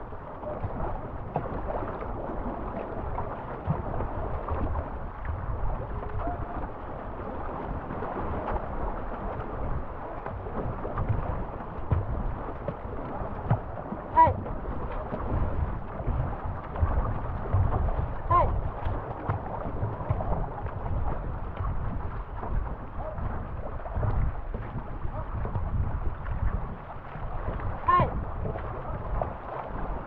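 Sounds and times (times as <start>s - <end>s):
canoe paddling: 0.0s - 30.0s
river water splashing: 0.0s - 30.0s
wind on microphone: 0.0s - 30.0s.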